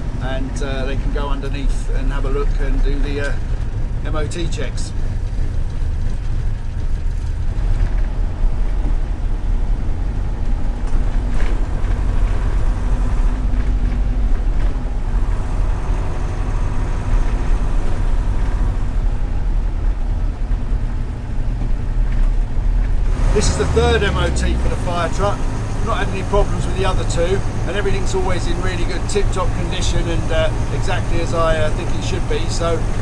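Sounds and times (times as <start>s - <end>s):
diesel truck engine rumble: 0.0s - 33.0s
road noise: 0.0s - 33.0s.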